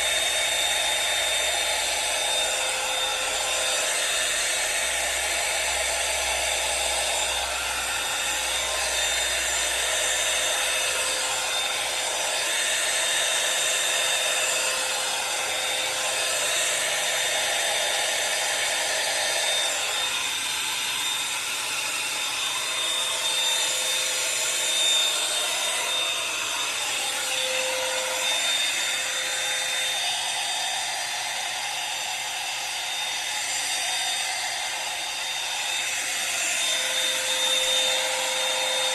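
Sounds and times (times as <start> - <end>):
hair dryer blowing air: 0.0 - 38.9.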